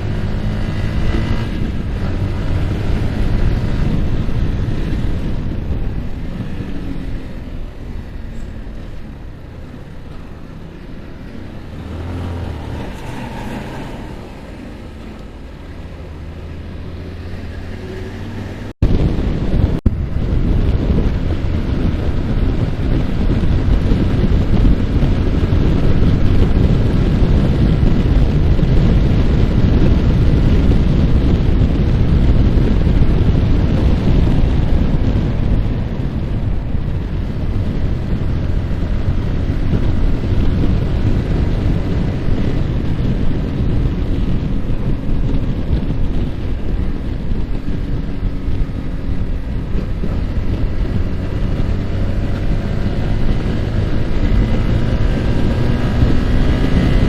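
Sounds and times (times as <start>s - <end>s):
motorcycle engine running: 0.0s - 57.0s
wind rush over microphone: 0.0s - 57.0s.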